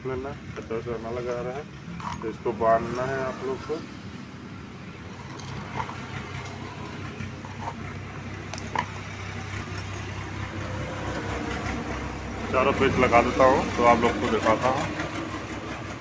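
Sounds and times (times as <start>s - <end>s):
low engine hum: 1.6s - 16.0s.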